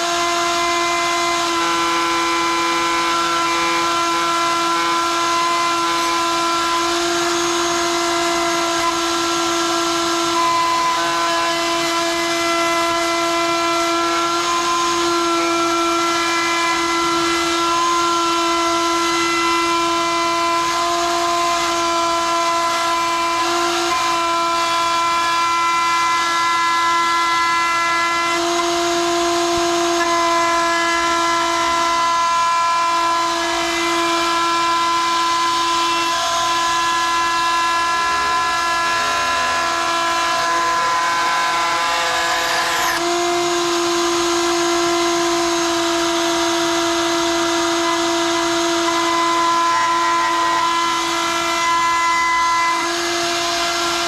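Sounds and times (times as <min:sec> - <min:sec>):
router motor whining: 0:00.0 - 0:54.0.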